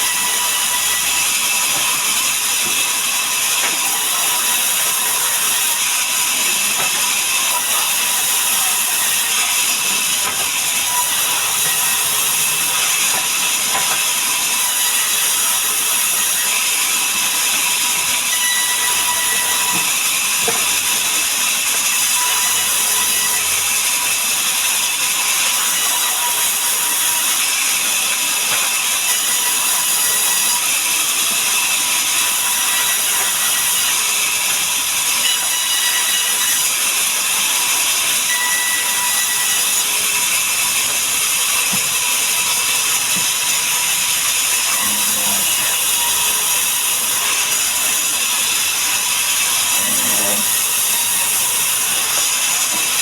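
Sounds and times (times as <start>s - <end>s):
sawmill saw cutting log: 0.0s - 53.0s.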